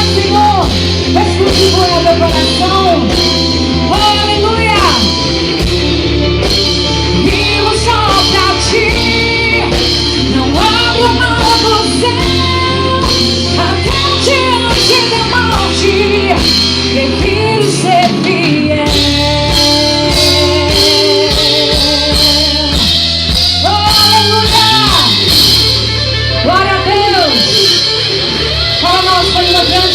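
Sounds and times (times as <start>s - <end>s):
drums: 0.0s - 29.9s
rock band playing: 0.0s - 29.9s.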